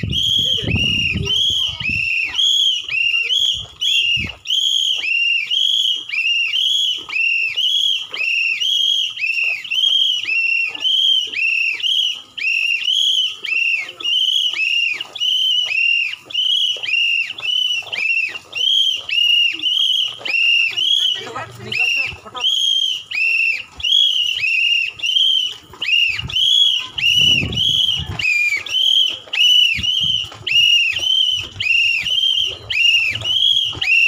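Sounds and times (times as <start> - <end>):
whistle short high blasts: 0.0 - 34.0.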